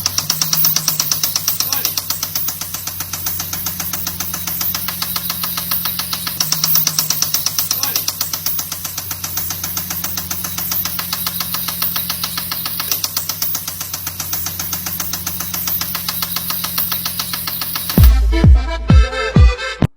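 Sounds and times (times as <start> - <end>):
car engine knocking: 0.0 - 18.1
bass-heavy electronic music: 0.0 - 19.9.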